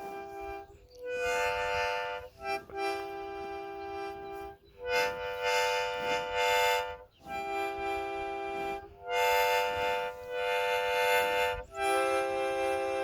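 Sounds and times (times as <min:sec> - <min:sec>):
harmonica chords: 0:00.0 - 0:13.0.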